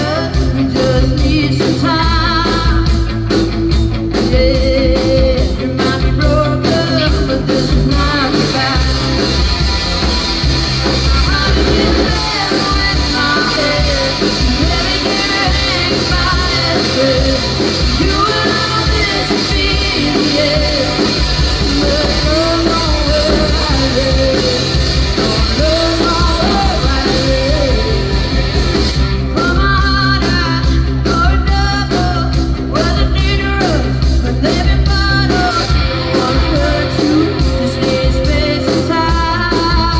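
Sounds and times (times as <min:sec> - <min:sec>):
drums driving hard: 0:00.0 - 0:39.9
live rock band playing: 0:00.0 - 0:39.9.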